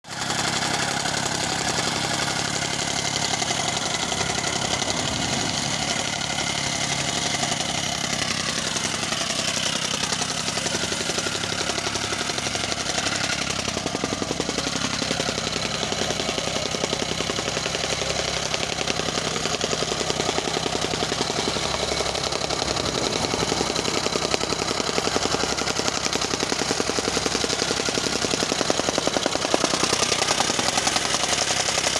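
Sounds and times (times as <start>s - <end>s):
road-works machine rattling: 0.0s - 31.9s.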